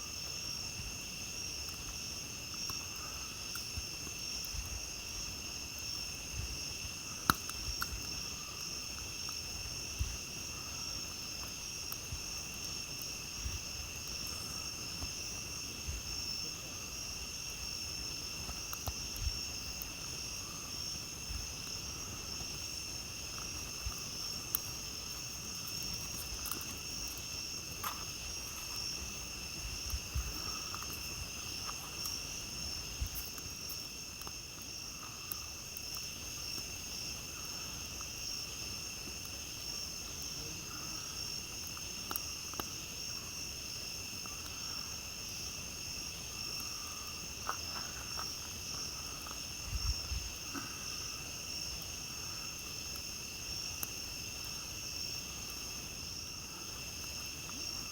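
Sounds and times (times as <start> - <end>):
campfire crackles and pops: 0.0 - 57.9
night insects trilling: 0.0 - 57.9.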